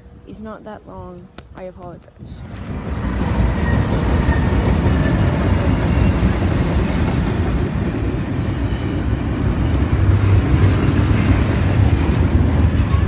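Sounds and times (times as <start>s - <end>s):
train wheels rumbling on rail: 2.2s - 13.0s
diesel locomotive passing: 2.3s - 13.0s.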